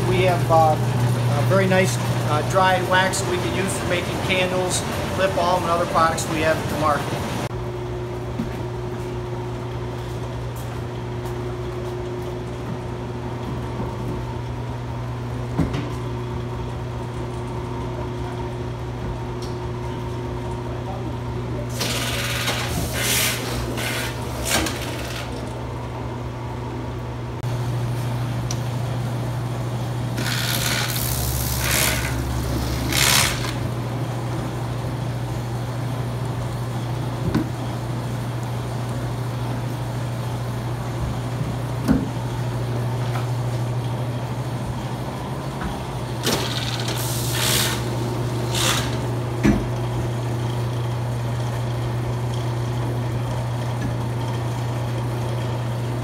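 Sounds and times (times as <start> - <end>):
electric motors humming: 0.0 - 56.0.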